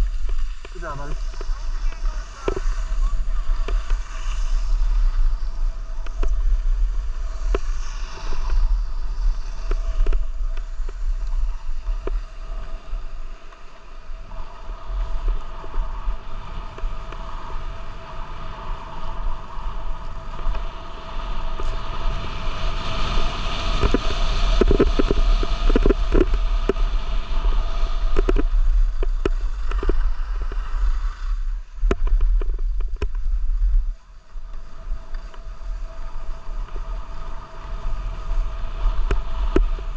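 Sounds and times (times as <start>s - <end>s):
skis scraping over snow: 0.0s - 39.9s
wind buffeting microphone: 0.0s - 39.9s.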